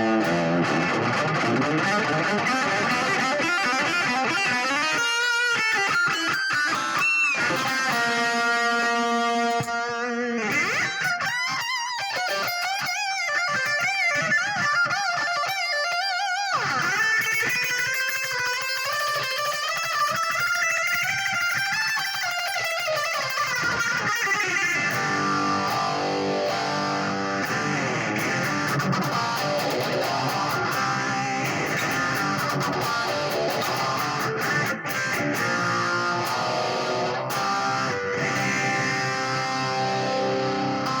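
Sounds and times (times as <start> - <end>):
distorted electric guitar: 0.0 - 41.0.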